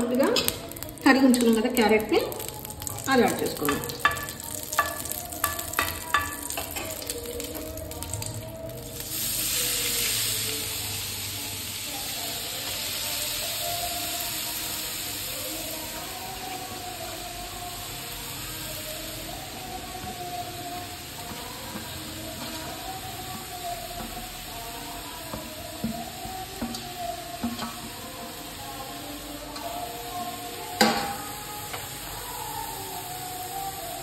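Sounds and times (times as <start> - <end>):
carrot sizzling in hot ghee: 0.0 - 34.0.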